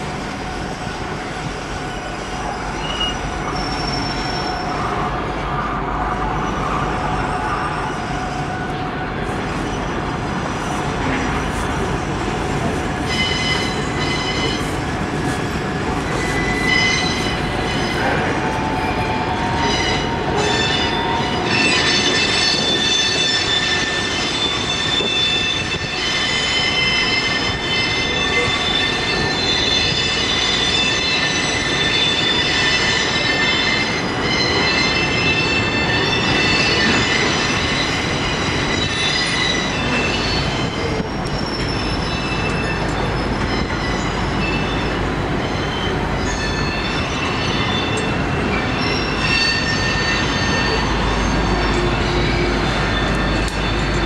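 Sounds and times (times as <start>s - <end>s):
freight cars rumbling: 0.0s - 54.0s
train wheels squealing: 0.3s - 54.0s.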